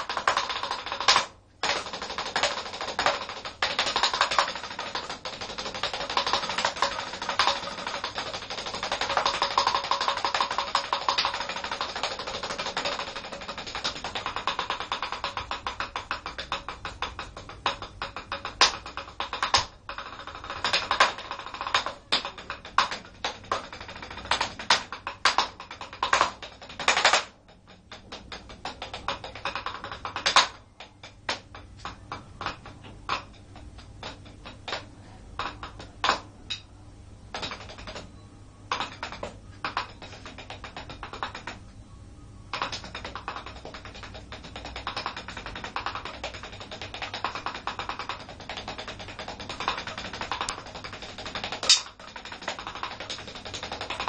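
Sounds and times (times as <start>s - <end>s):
drumsticks tapping practice pads: 0.0s - 36.7s, 37.3s - 41.7s, 42.5s - 54.0s.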